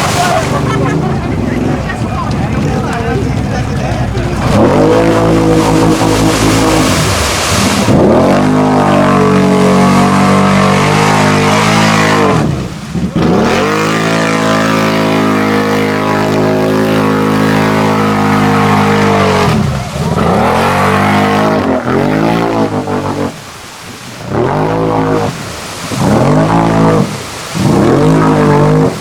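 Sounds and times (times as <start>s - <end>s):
off-road vehicle engine revving: 0.0s - 23.5s, 24.1s - 29.0s.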